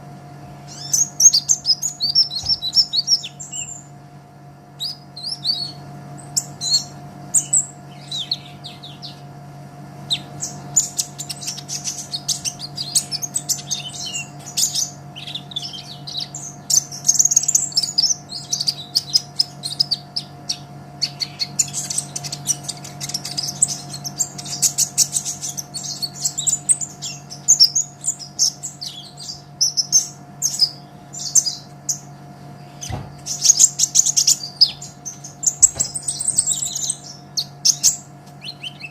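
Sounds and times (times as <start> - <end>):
bird twittering song: 0.0 - 4.0, 4.8 - 9.3, 10.0 - 38.9.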